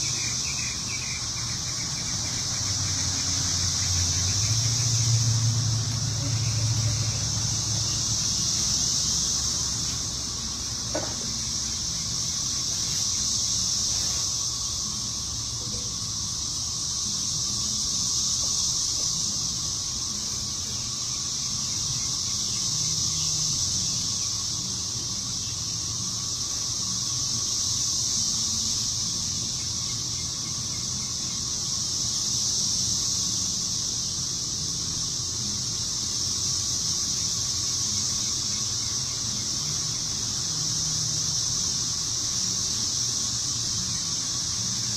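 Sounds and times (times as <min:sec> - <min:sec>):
insects shrilling: 0:00.0 - 0:44.9.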